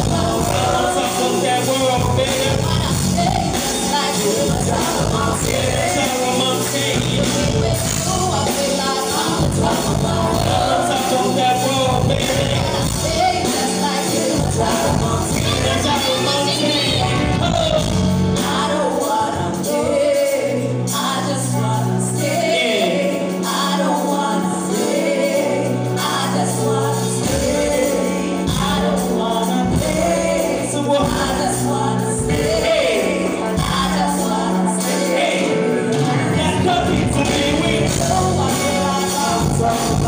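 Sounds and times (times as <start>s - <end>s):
held bass notes: 0.0s - 18.8s, 26.7s - 40.0s
live band music: 0.0s - 40.0s
person singing: 0.0s - 40.0s.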